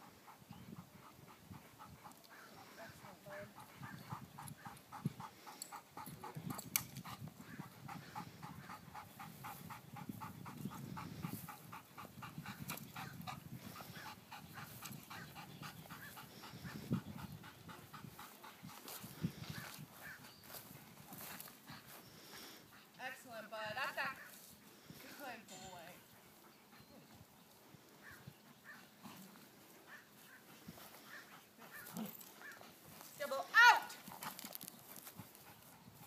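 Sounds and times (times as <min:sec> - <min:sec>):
dog panting: 0:00.0 - 0:23.1, 0:23.8 - 0:36.0.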